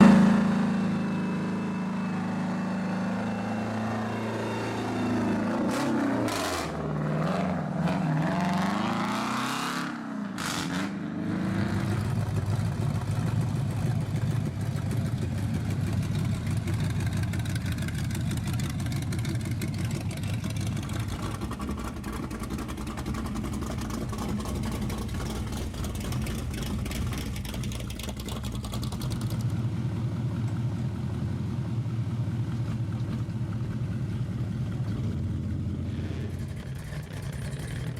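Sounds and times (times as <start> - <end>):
car engine revving: 0.0 - 30.8.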